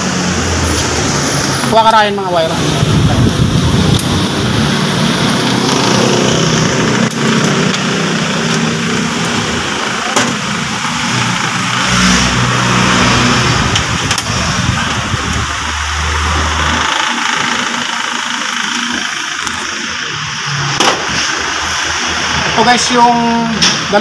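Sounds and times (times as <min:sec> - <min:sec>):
engine idling: 0:02.5 - 0:22.5.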